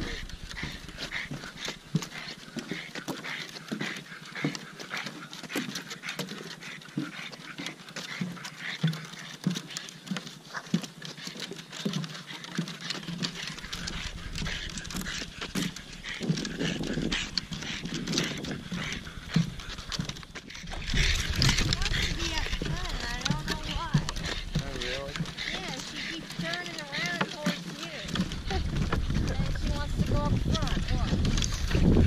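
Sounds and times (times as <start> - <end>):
dog claws clicking on boards: 0.0 - 32.0
dog panting: 0.0 - 32.0
footsteps on wooden boardwalk: 0.0 - 32.0.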